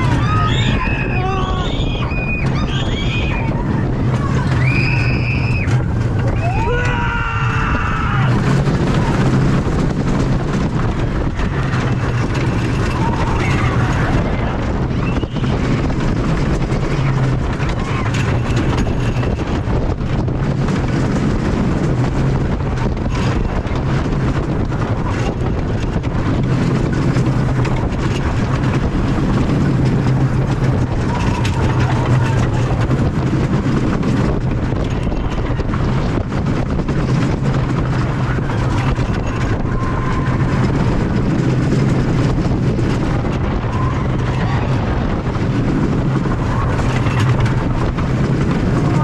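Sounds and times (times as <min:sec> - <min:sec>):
roller coaster rumble: 0:00.0 - 0:49.0
wind on microphone: 0:00.0 - 0:49.0.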